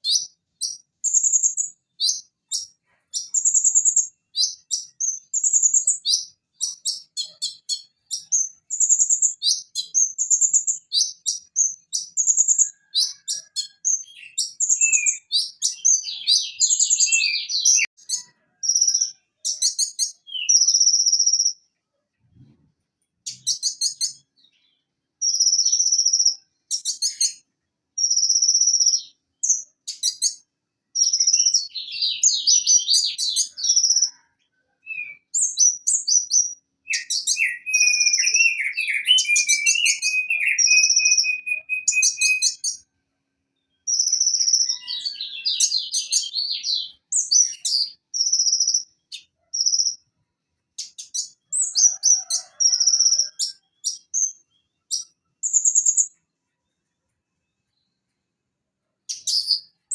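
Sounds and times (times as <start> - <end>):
sunbird singing: 0.0 - 21.7, 23.2 - 42.8, 43.6 - 50.0, 50.8 - 56.2, 59.1 - 59.9.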